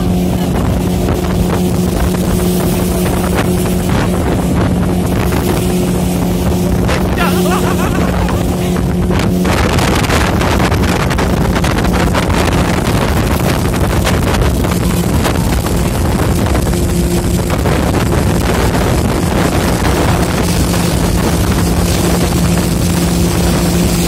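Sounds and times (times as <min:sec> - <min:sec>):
speedboat engine drone: 0:00.0 - 0:24.0
wind buffeting on microphone: 0:00.0 - 0:24.0.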